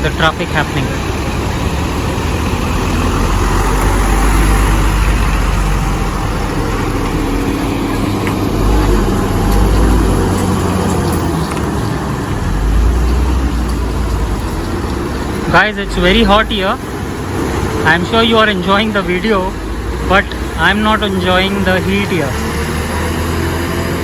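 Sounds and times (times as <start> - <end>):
trucks and buses passing: 0.0 - 24.0.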